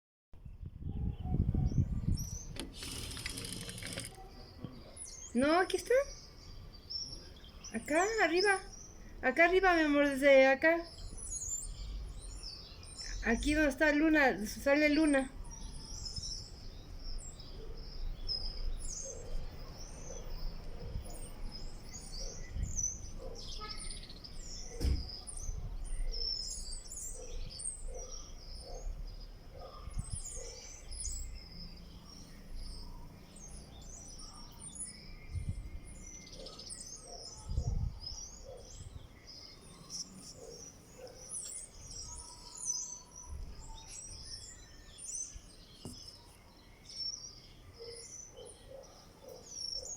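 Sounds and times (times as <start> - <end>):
small birds chirping: 0.4 - 49.9.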